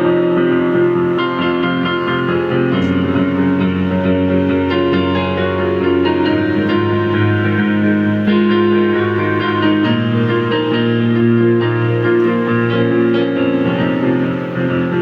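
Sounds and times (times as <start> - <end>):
synthesizer keyboard melody: 0.0 - 15.0.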